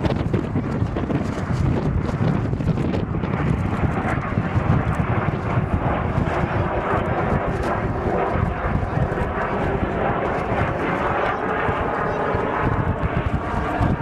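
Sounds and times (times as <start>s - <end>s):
aircraft engine noise: 0.0s - 14.0s
wind buffeting microphone: 0.0s - 14.0s.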